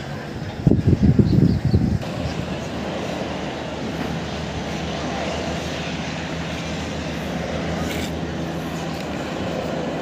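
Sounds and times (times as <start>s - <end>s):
helicopter flying overhead: 0.0s - 10.0s.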